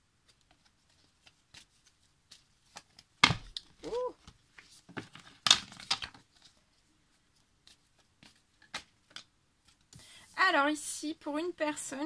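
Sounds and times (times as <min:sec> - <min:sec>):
cards rustling while shuffled: 0:00.2 - 0:10.0.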